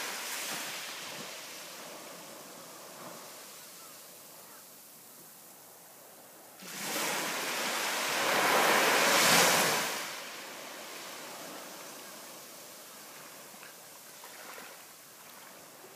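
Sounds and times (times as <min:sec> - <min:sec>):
waves washing on beach: 0:00.0 - 0:15.9.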